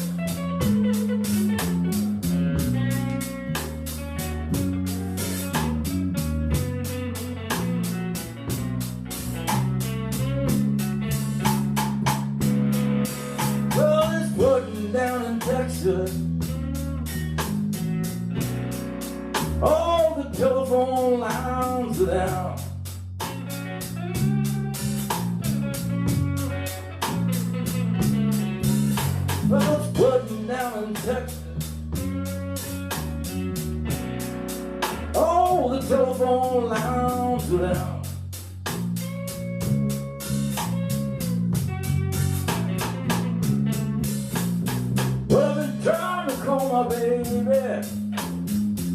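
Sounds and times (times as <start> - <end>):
bass guitar: 0.0 - 48.9
drum kit beat: 0.0 - 48.9
electric guitar: 0.0 - 48.9.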